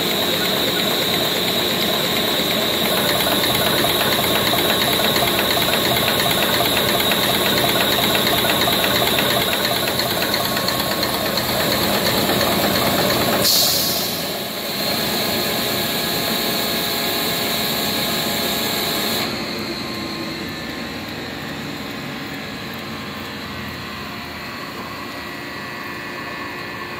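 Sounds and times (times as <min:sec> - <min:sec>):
homogenizer pump clatter: 0:00.0 - 0:25.0.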